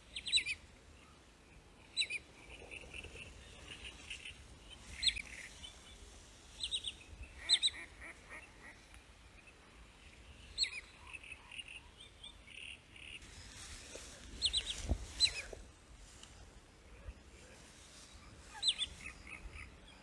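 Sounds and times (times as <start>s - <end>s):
faint hiss: 0.0s - 20.0s.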